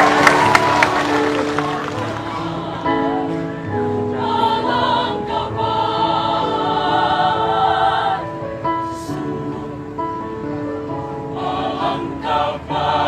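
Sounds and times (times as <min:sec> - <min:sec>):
church choir singing a hymn: 0:00.0 - 0:13.0.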